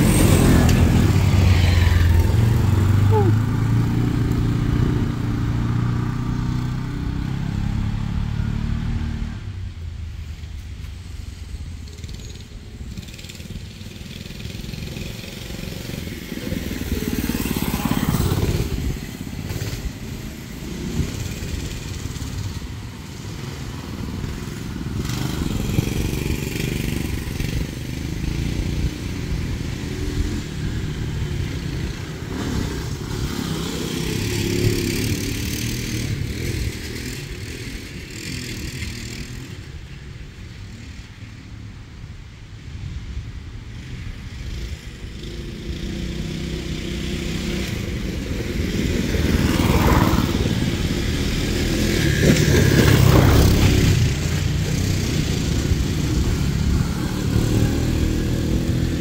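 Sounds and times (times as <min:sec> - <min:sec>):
off-road engines racing: 0:00.0 - 0:59.0.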